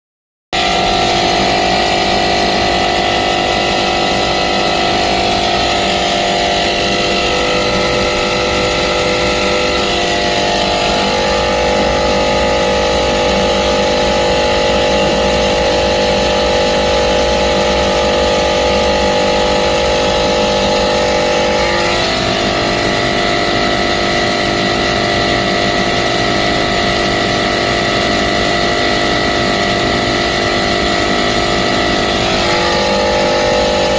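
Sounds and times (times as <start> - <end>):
air conditioner compressor drone: 0.6 - 33.9.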